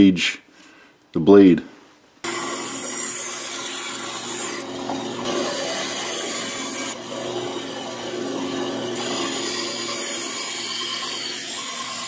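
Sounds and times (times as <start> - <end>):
bandsaw humming: 2.2 - 12.0
saw blade cutting wood: 2.2 - 12.0.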